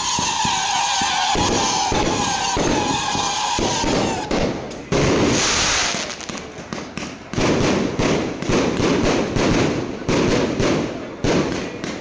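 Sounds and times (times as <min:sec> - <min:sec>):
fireworks bangs with crackling: 0:00.0 - 0:12.0.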